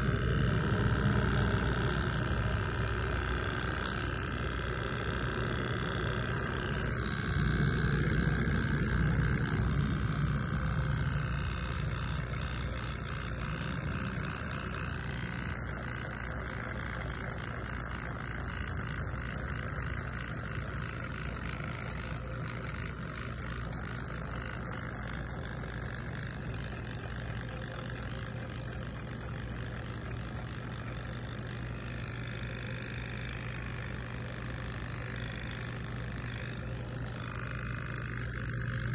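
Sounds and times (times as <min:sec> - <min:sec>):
electric hair trimmer buzzing: 0:00.0 - 0:38.9.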